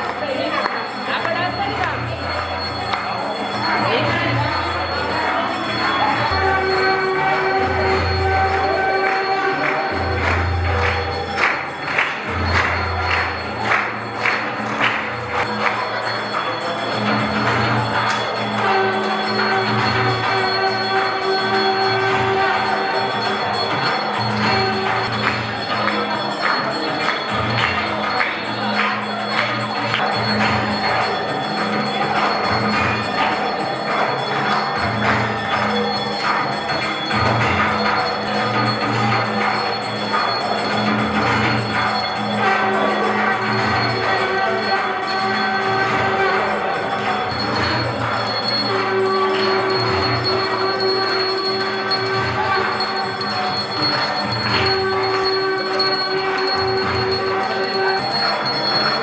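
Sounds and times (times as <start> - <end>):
temple bells ringing rapidly: 0.0 - 59.0.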